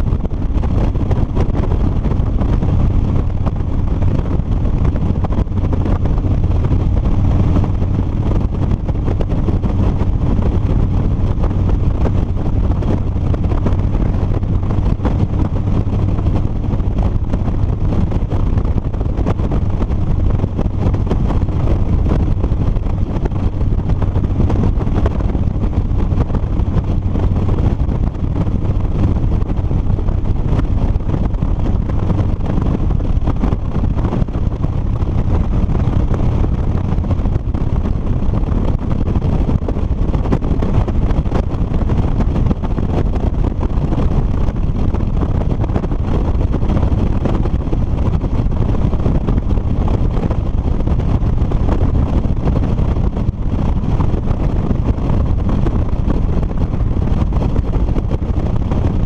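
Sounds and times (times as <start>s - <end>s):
motorcycle engine cruising: 0.0s - 59.0s
wind noise on microphone: 0.0s - 59.0s.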